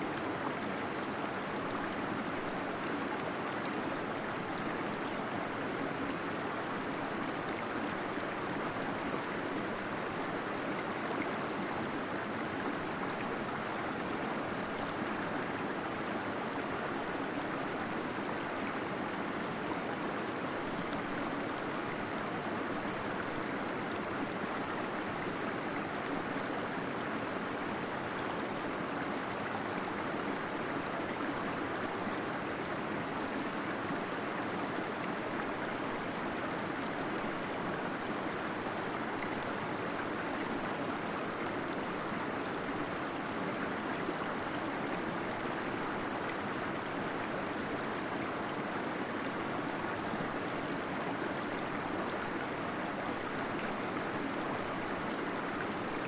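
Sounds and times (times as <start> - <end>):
small waterfall gurgling: 0.0 - 56.0.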